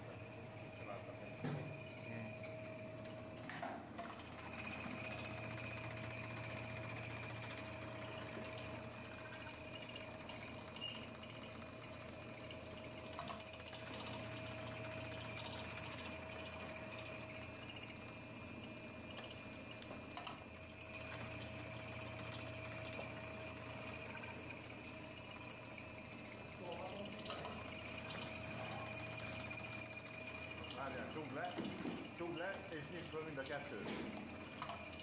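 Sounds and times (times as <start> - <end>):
machine humming and whining: 0.0 - 35.0.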